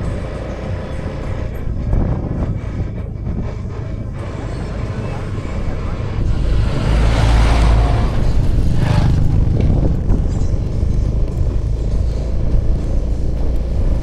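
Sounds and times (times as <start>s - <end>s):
road and air noise: 0.0s - 14.0s
scooter engine running: 0.0s - 14.0s.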